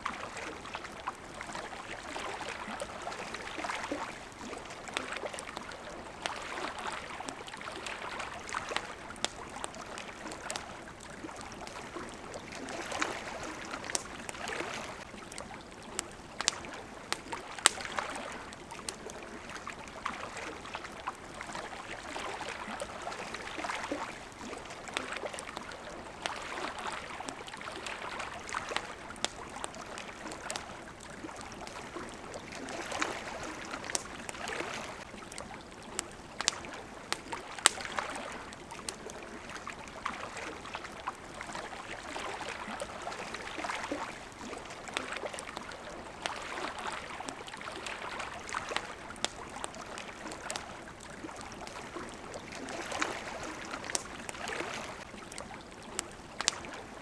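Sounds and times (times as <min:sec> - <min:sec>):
campfire popping and crackling: 0:00.0 - 0:57.0
small waves lapping at shore: 0:00.0 - 0:57.0.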